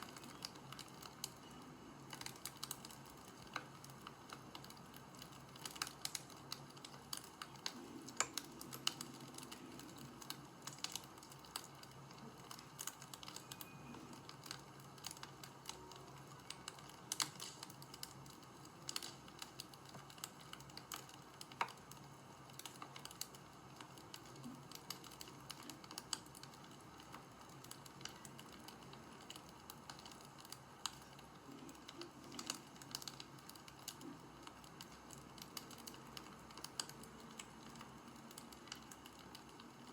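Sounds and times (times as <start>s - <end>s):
low hiss: 0.0s - 39.9s
wood fire crackling: 0.0s - 39.9s.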